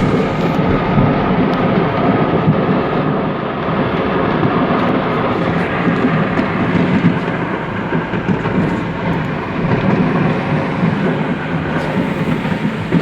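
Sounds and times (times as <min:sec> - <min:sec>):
fireworks rumbling and crackling: 0:00.0 - 0:13.0.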